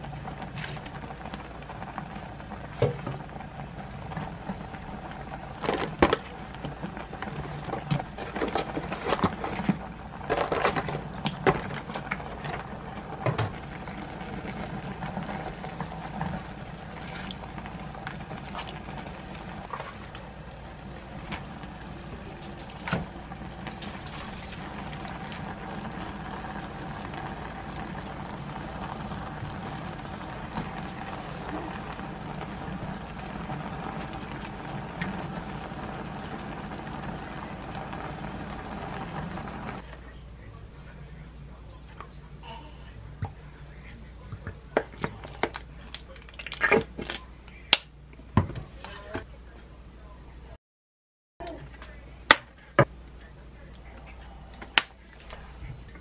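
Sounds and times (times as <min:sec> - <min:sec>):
gas stove hum: 0:00.0 - 0:46.2, 0:51.5 - 0:56.0
broth simmering and bubbling: 0:00.0 - 0:48.9, 0:51.4 - 0:56.0.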